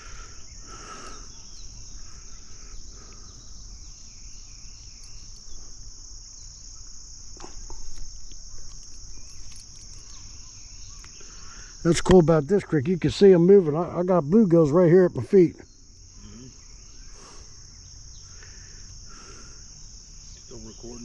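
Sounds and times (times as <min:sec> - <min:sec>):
faint bird chirps: 0:00.0 - 0:12.0, 0:15.4 - 0:21.0
high-pitched insect chorus: 0:00.0 - 0:21.0.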